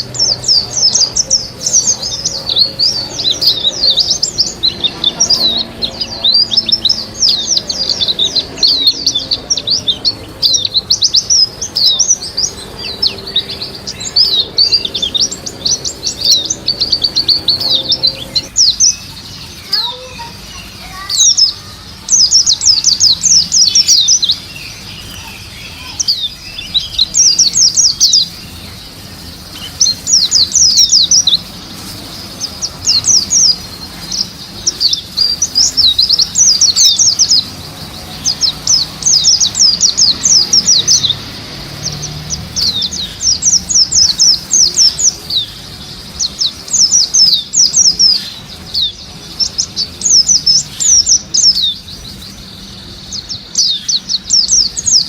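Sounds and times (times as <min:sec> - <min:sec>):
bird singing rapid high chirps: 0:00.0 - 0:55.0.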